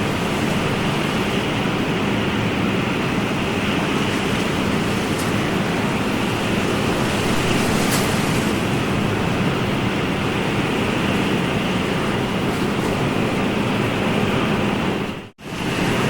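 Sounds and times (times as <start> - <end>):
ocean surf: 0.0 - 16.0.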